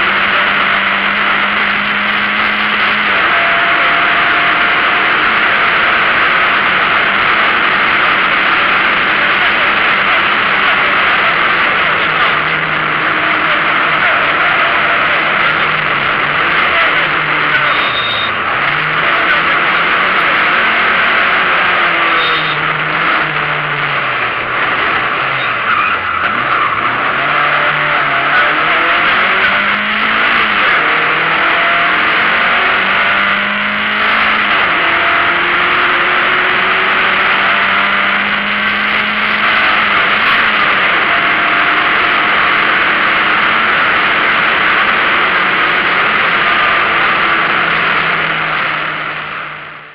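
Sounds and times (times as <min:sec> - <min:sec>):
rally car engine accelerating: 0:00.0 - 0:49.9.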